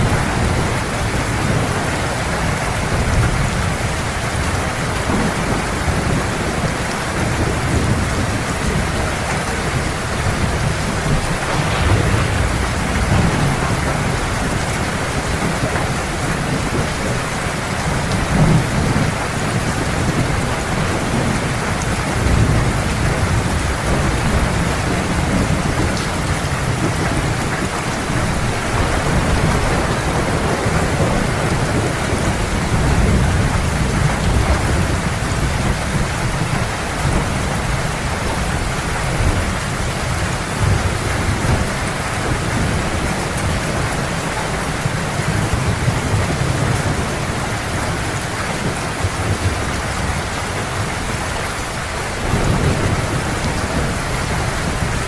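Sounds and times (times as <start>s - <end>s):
thunder rumbling: 0.0s - 48.0s, 48.6s - 55.0s
heavy rain falling: 0.0s - 55.0s.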